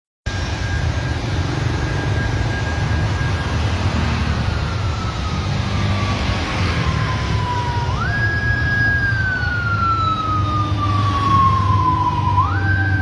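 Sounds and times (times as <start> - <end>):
police siren: 0.3 - 13.0
road traffic rumble: 0.3 - 13.0.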